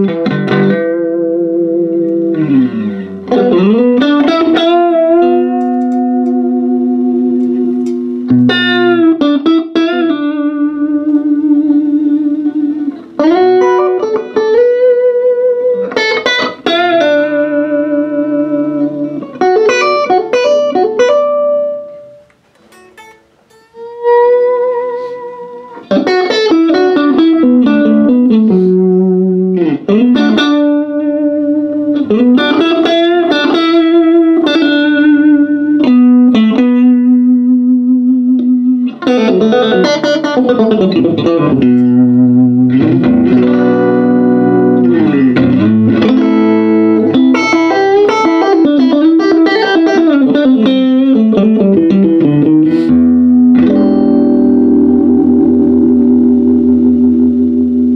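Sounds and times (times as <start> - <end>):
electric guitar lead lines: 0.0 - 57.9.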